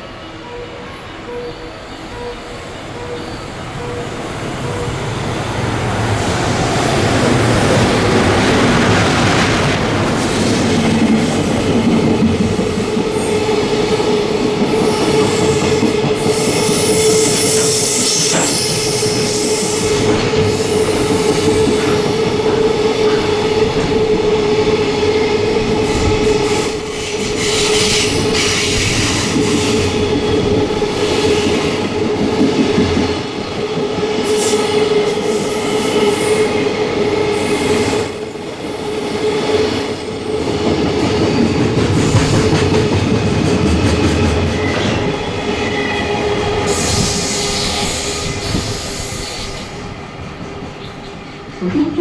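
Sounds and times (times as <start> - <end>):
train wheels on rails: 1.3 - 52.0.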